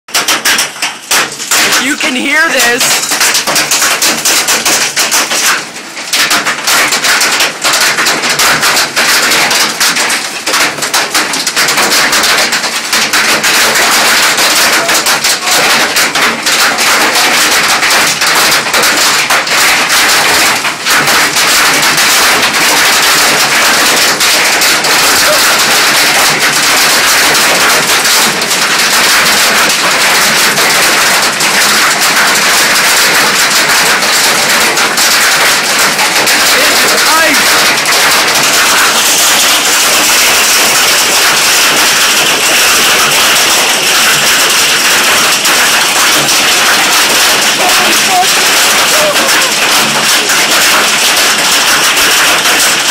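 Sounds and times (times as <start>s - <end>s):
hailstones clattering: 0.1s - 52.9s.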